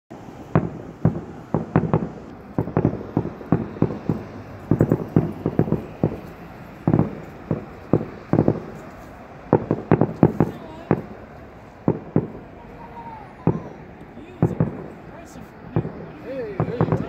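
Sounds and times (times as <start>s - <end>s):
fireworks bangs and pops: 0.4s - 12.5s, 13.4s - 17.0s.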